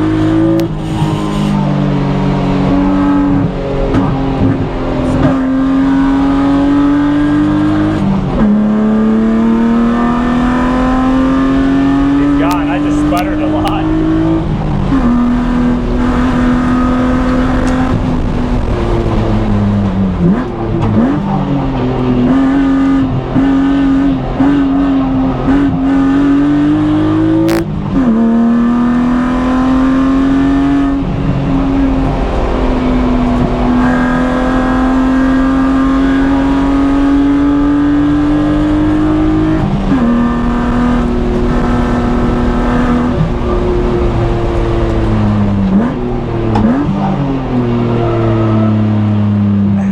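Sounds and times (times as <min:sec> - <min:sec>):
car engine revving hard: 0:00.0 - 0:49.9.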